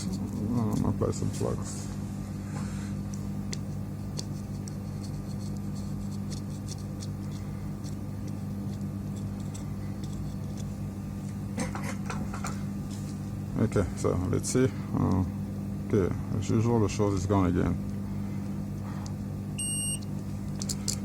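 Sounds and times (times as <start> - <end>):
low bench hum: 0.0 - 21.0.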